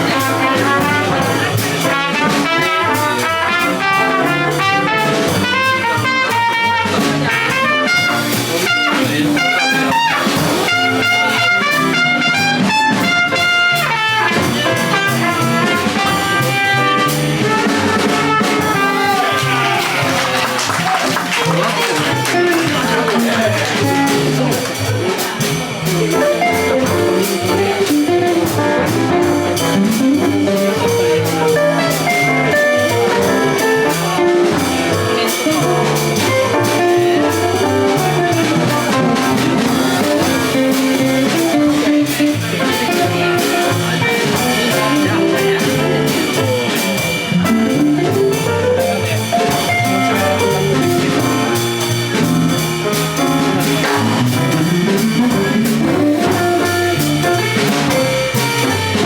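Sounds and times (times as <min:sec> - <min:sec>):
drum kit: 0:00.0 - 0:59.0
guitar: 0:00.0 - 0:59.0
jazz combo playing: 0:00.0 - 0:59.0.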